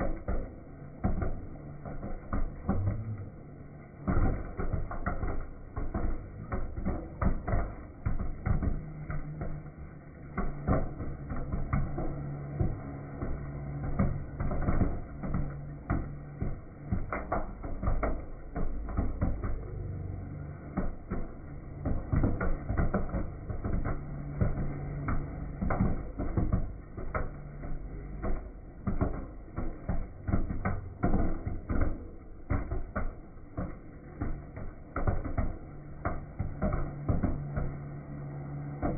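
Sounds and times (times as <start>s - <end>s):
low machine hum: 0.0s - 38.9s.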